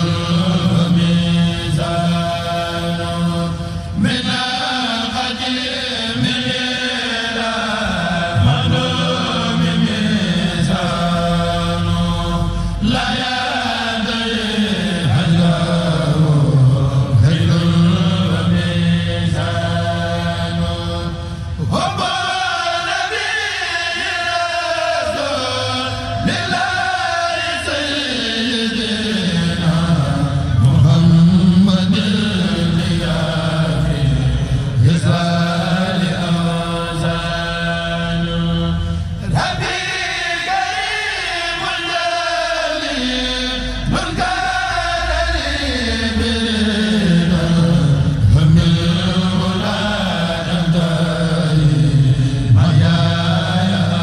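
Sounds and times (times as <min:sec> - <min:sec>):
male voices chanting: 0:00.0 - 0:54.0.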